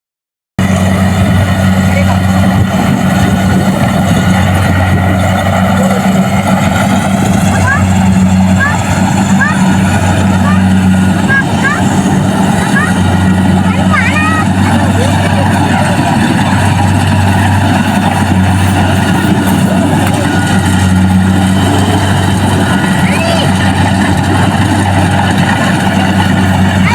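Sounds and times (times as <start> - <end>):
diesel engine running: 0.6 - 26.9
harvesting machinery rattling: 0.6 - 26.9.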